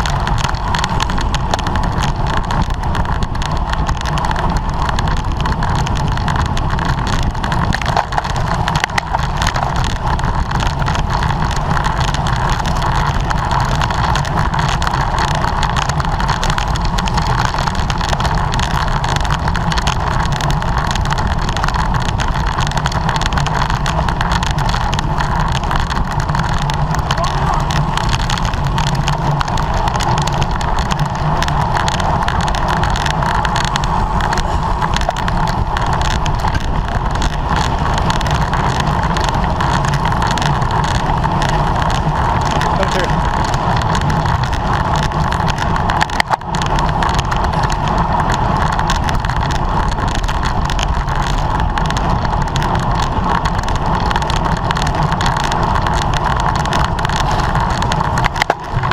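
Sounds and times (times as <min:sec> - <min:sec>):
bicycle road noise: 0:00.0 - 0:58.9
wind buffeting microphone: 0:00.0 - 0:58.9
wind rush: 0:00.0 - 0:58.9.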